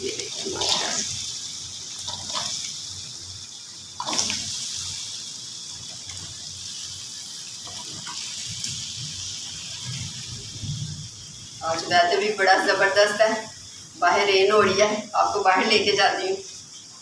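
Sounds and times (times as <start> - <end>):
potatoes sizzling in a wok: 0.0 - 17.0.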